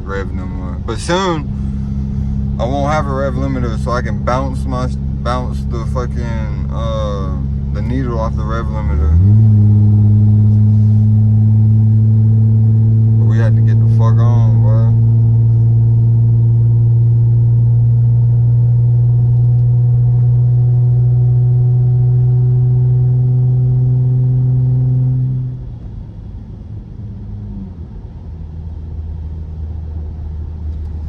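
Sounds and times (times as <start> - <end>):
car engine droning: 0.0 - 31.0.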